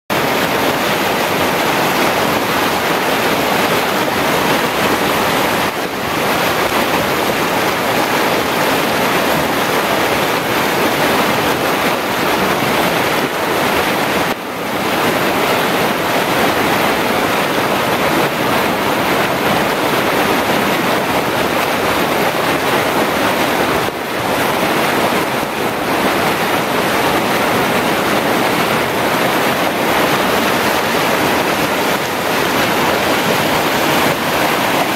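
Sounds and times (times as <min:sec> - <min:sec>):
creek water rushing over rocks: 0:00.1 - 0:34.9.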